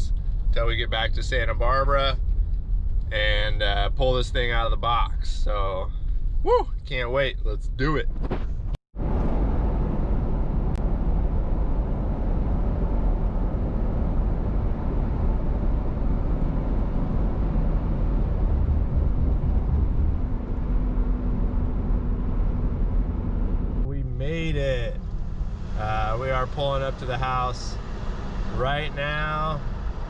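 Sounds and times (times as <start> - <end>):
vehicle road and engine rumble: 0.0 - 30.0.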